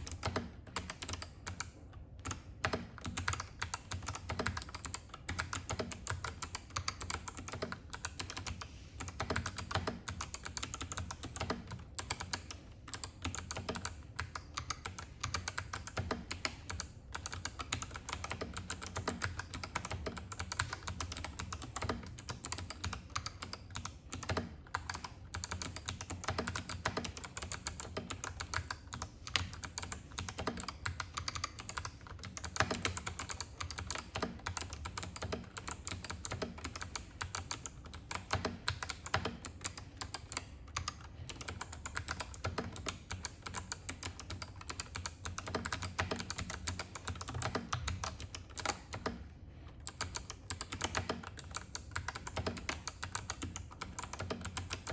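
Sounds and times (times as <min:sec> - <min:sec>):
fast typing on clicky keyboard: 0:00.0 - 0:54.9.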